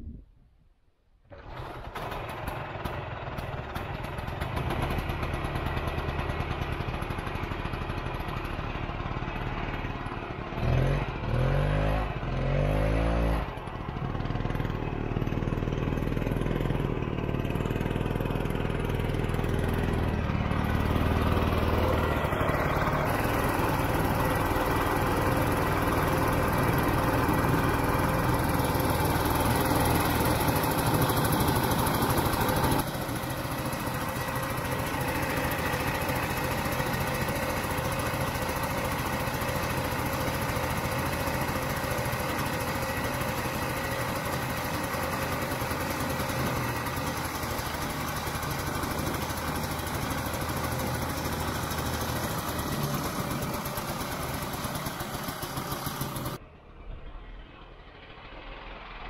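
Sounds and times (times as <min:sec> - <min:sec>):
snowmobile engine running: 0:01.4 - 0:56.4.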